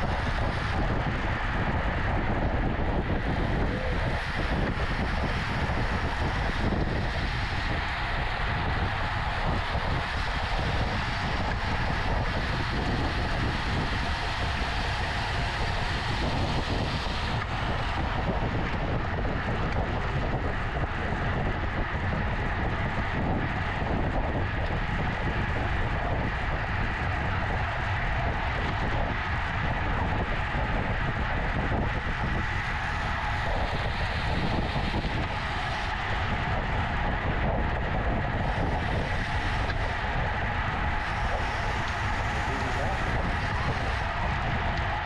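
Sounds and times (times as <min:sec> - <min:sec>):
road and tyre noise: 0:00.0 - 0:45.0
wind rush over microphone: 0:00.0 - 0:45.0.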